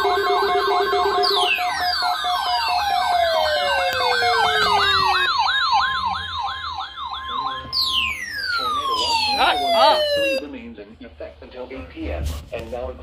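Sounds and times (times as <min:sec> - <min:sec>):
siren wails gliding down: 0:00.0 - 0:10.4
electronic siren yelp: 0:00.0 - 0:10.5
steady high siren tone: 0:00.0 - 0:10.5.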